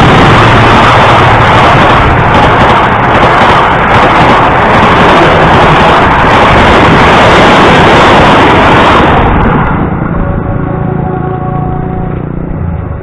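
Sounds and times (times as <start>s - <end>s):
train coaches rushing past: 0.0s - 13.0s.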